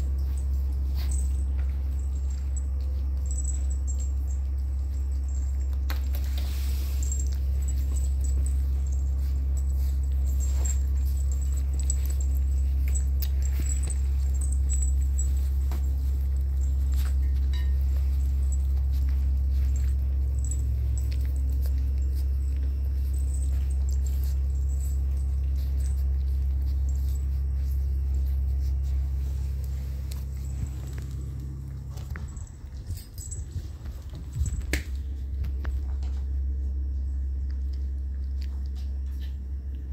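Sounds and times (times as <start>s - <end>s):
low hum: 0.0s - 39.9s
puppies suckling: 0.0s - 39.9s.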